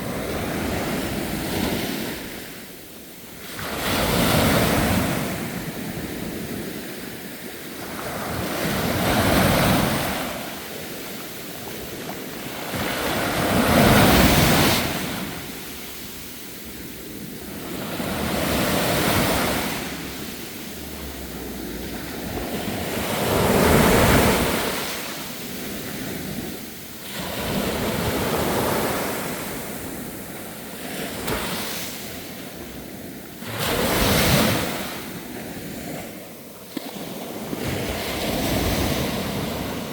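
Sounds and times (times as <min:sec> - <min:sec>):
sea surf breaking: 0:07.8 - 0:39.9.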